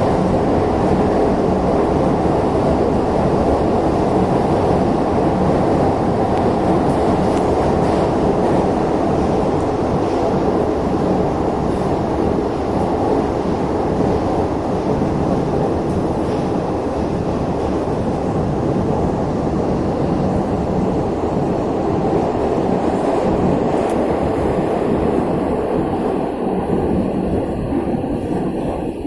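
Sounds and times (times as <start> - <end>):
metro train wheels rumbling on rails: 0.0 - 29.0.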